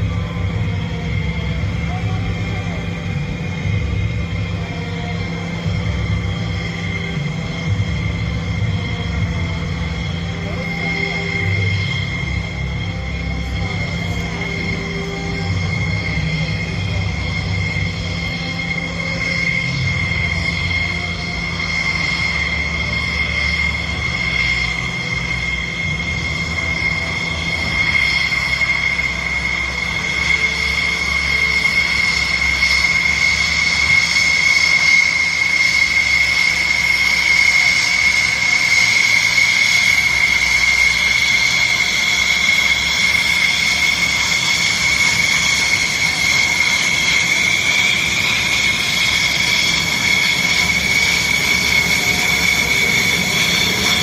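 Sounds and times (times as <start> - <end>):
jet engines running at low power: 0.0 - 54.0.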